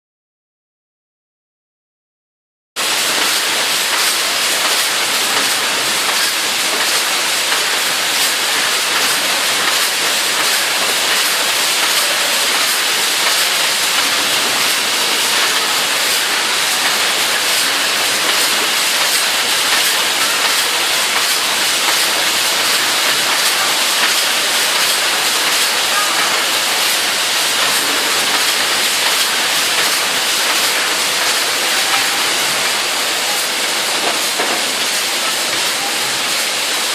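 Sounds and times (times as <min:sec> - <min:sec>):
machinery hissing: 0:02.8 - 0:36.9.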